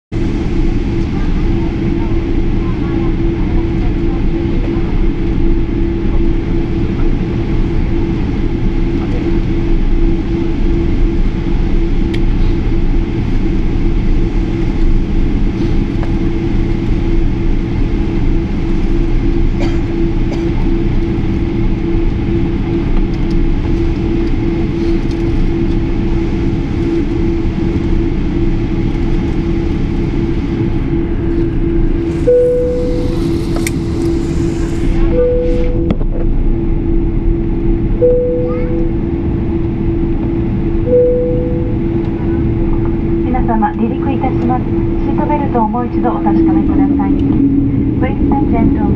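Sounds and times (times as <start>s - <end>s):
jet engines and cabin air: 0.1s - 48.9s
constant humming tone: 0.2s - 48.9s.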